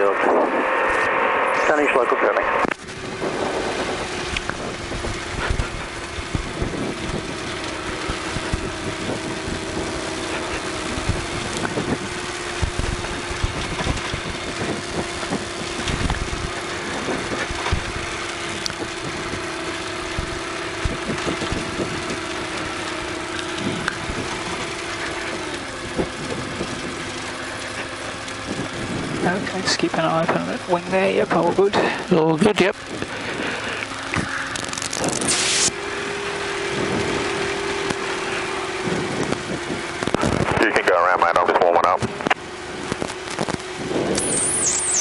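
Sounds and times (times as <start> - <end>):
aircraft engine running: 0.0 - 45.0.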